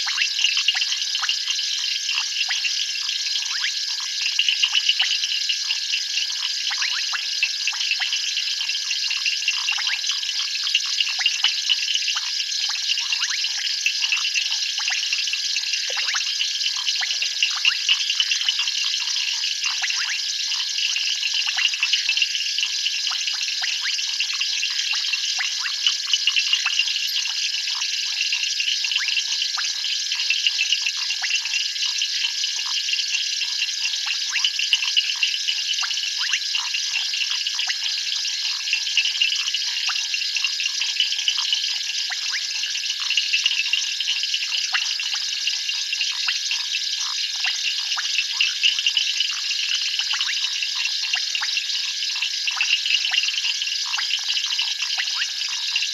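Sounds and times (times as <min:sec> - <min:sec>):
frogs chirping: 0:00.0 - 0:55.9.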